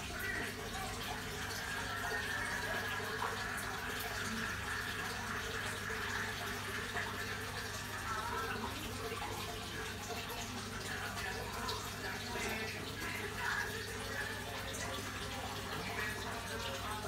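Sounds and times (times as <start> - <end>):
water trickling in fish tank: 0.0 - 17.0.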